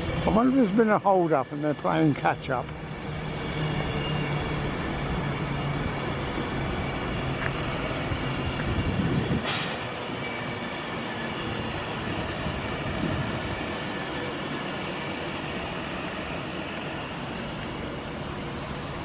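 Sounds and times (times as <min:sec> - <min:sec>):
diesel train rumbling past: 0:00.0 - 0:19.0
train wheel noise: 0:02.7 - 0:19.0.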